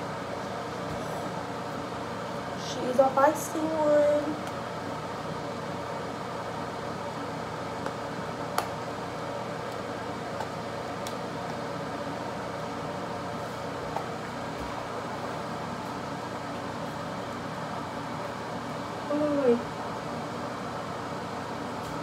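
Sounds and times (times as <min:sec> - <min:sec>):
fan hum: 0:00.0 - 0:22.0.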